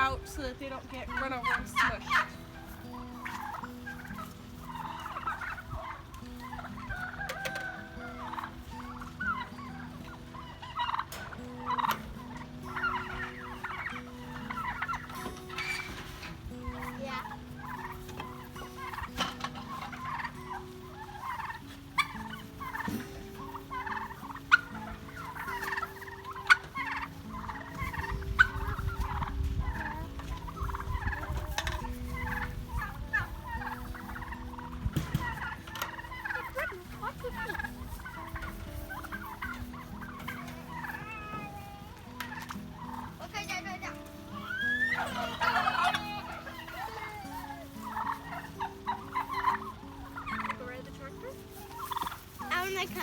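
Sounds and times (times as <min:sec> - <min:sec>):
soft background music: 0:00.0 - 0:53.0
turkeys calling: 0:00.0 - 0:53.0.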